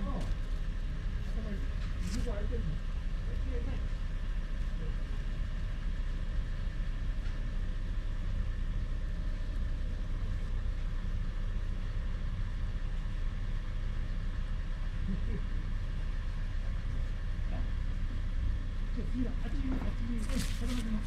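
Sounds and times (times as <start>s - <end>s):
faint constant hum: 0.0s - 21.0s
steady low rumble: 0.0s - 21.0s.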